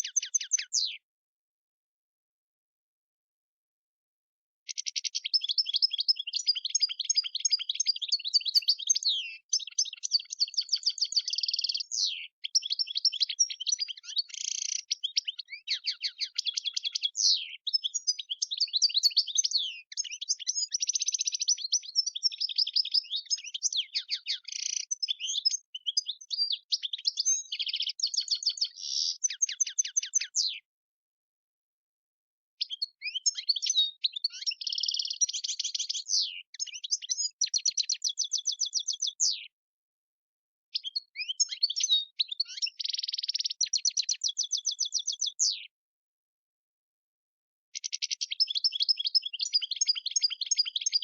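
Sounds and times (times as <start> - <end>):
goldfinch twittering song: 0.0 - 1.0, 4.7 - 30.7, 32.6 - 39.6, 40.7 - 45.7, 47.8 - 51.0.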